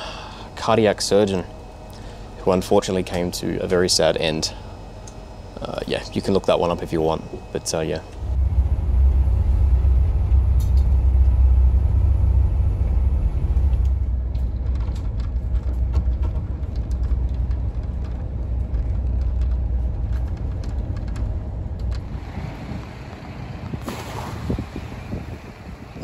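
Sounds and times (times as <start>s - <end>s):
ferry engine low rumble: 0.0s - 26.0s.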